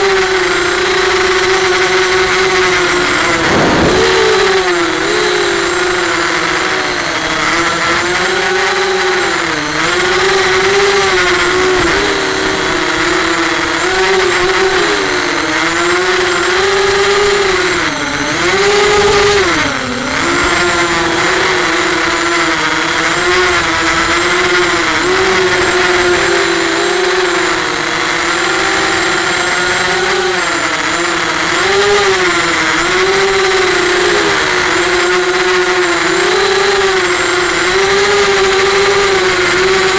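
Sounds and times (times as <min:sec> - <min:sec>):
drone motors and propellers buzzing: 0:00.0 - 0:39.9.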